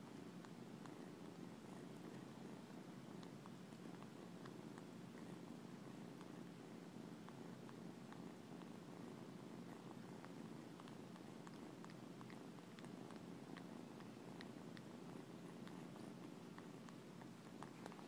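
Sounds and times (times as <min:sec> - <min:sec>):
kitten purring: 0:00.0 - 0:18.0.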